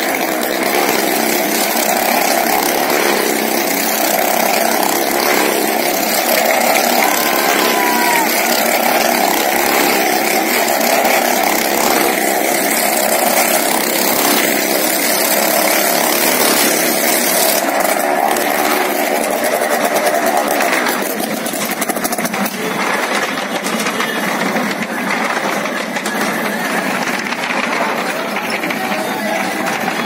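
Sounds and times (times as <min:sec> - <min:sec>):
motorcycle engine echoing: 0:00.0 - 0:30.0.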